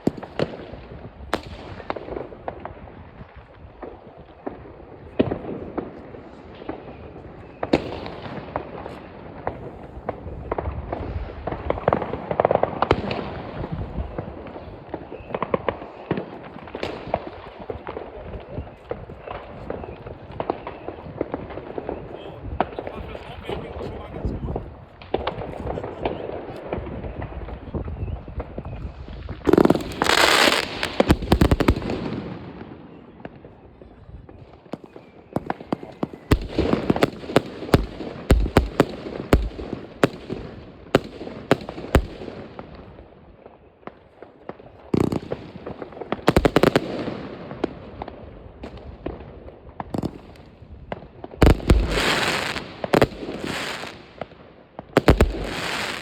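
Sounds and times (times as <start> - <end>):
fireworks bangs: 0.0 - 43.2, 43.8 - 56.0
fireworks crackling: 0.0 - 56.0.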